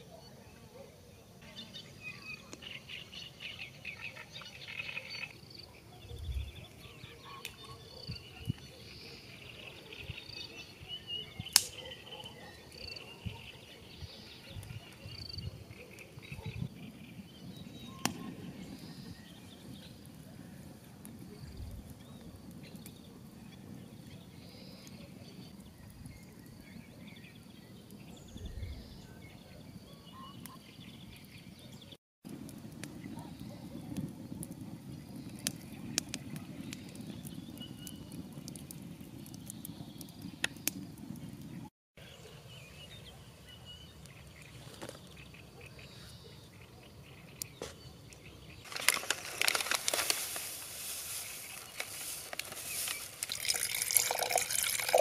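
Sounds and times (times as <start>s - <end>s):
birds chirping: 0.0s - 32.0s, 32.8s - 55.0s.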